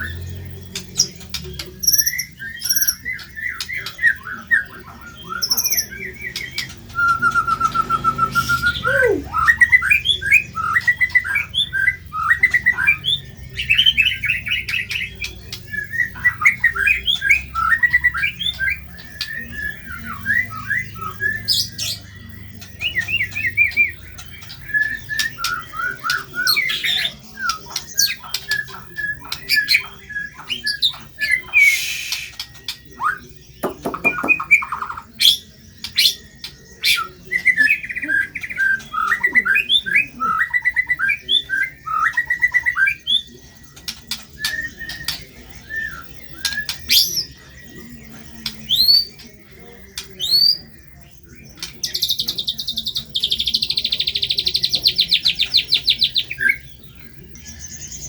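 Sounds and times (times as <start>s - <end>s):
songbird singing trills and whistles: 0.0s - 58.0s.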